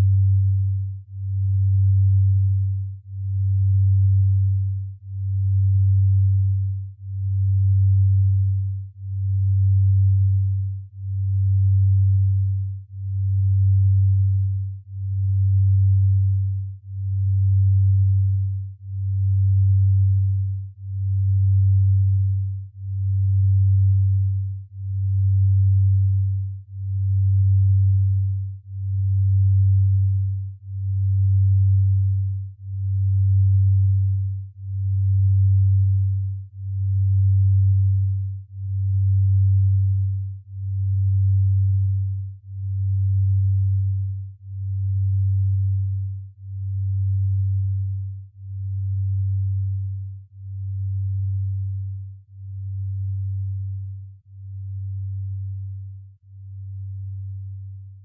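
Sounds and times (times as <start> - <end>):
low pulsing tone: 0.0 - 58.0.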